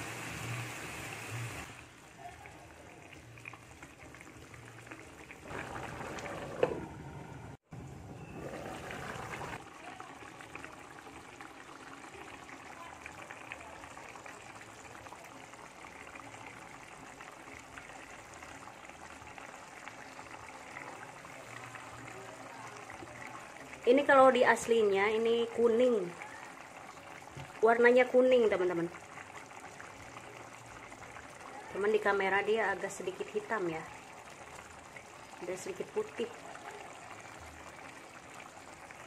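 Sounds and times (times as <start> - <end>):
food simmering in a frying pan: 0.0 - 39.0.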